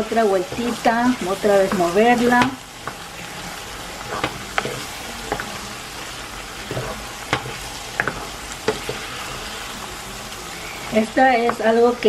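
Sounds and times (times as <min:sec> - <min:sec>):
wooden spoon scraping pot: 0:00.0 - 0:11.7
meat and potatoes sizzling: 0:00.0 - 0:12.0.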